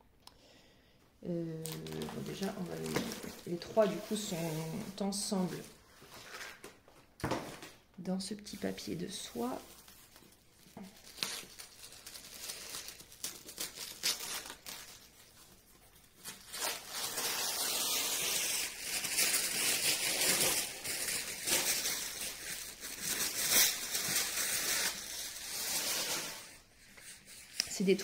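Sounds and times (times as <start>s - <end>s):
tissue paper crinkling: 1.6s - 6.6s, 8.4s - 28.0s.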